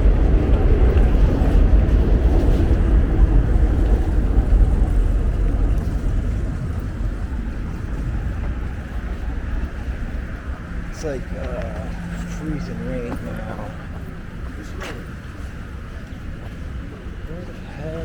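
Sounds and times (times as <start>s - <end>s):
vehicle passing rumble: 0.0s - 18.0s.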